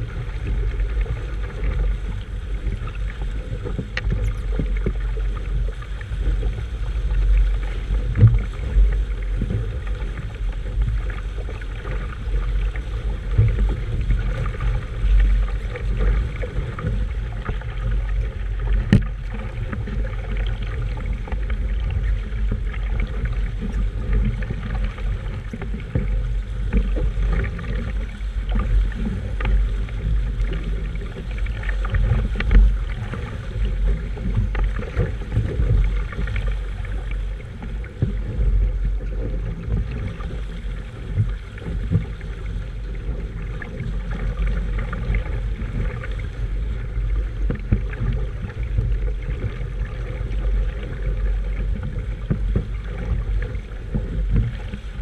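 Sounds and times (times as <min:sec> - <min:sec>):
water around a boat: 0:00.0 - 0:55.0
wind buffeting microphone: 0:00.0 - 0:55.0.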